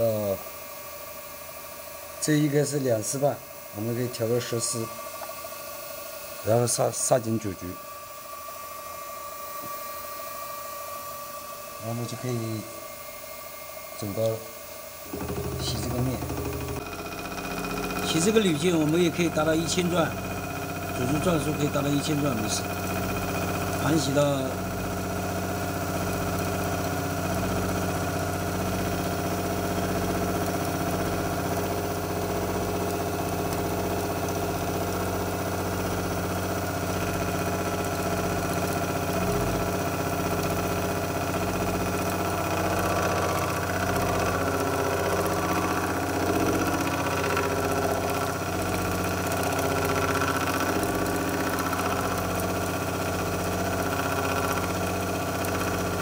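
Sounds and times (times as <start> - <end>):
milling machine motor humming: 0.0 - 56.0.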